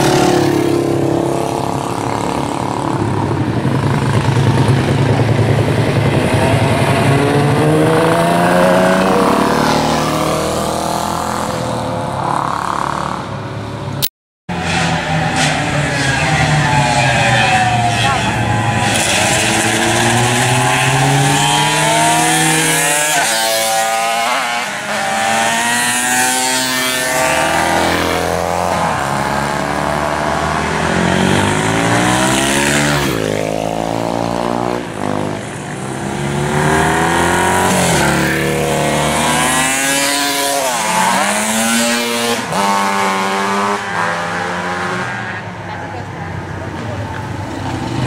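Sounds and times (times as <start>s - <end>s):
racing motorcycles passing: 0.0s - 48.0s.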